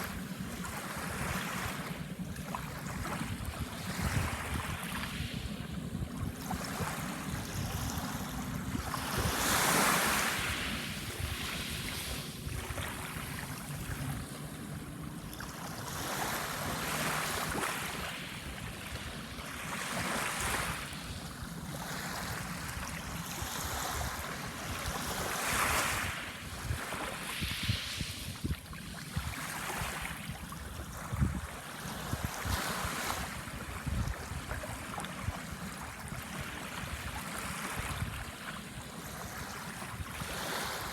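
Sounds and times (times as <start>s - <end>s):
small waves breaking on shore: 0.0s - 40.9s
wind rumble on microphone: 0.0s - 40.9s.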